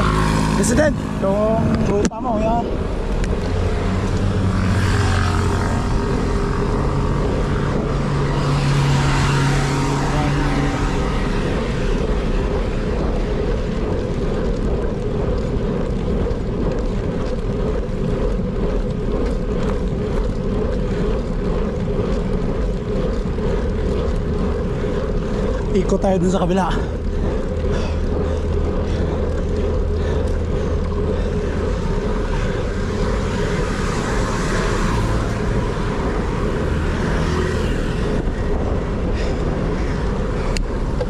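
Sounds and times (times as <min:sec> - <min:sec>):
road noise: 0:00.0 - 0:41.0
steady hum: 0:00.0 - 0:41.0
wind buffeting microphone: 0:00.0 - 0:41.0.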